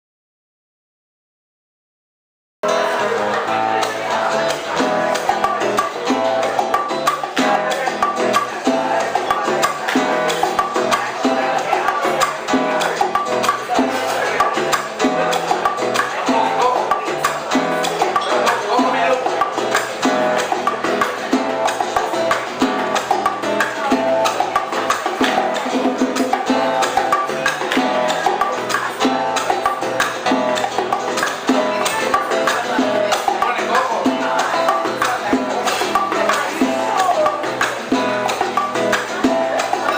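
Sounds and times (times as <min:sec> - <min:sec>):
live salsa band music: 0:02.6 - 0:39.9.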